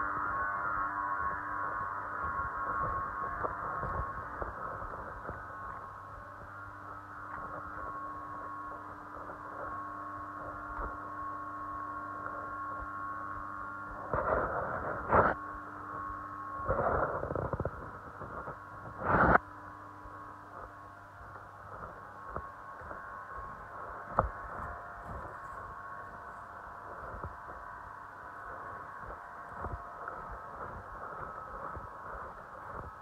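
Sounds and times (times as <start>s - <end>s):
machine hum with whine: 0.0s - 33.0s.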